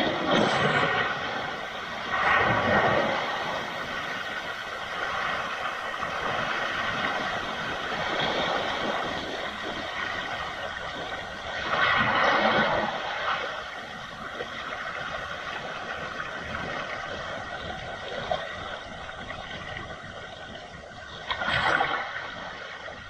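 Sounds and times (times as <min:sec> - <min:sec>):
waves breaking on rocky shore: 0:00.0 - 0:23.0.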